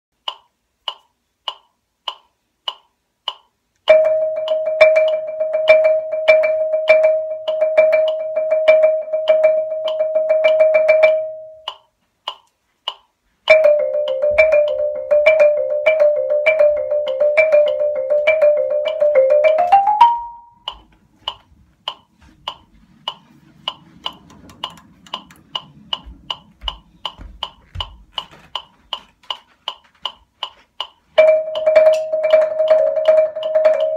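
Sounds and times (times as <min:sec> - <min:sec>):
metronome clicking: 0:00.2 - 0:33.9.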